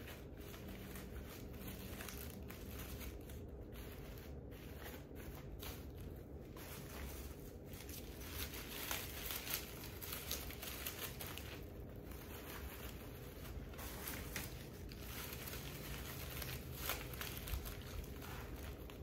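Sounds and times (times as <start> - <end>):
wrapping material crinkling: 0.0 - 19.0.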